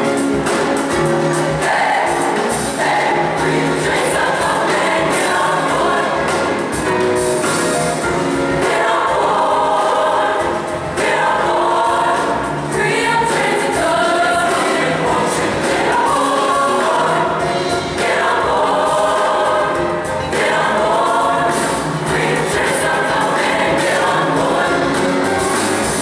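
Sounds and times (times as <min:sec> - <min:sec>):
youth choir singing: 0:01.4 - 0:26.0.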